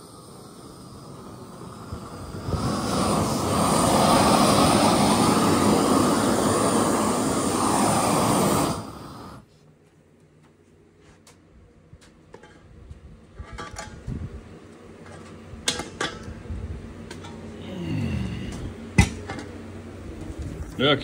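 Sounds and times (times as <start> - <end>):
propane torch roaring: 0.0 - 9.5, 11.6 - 21.0.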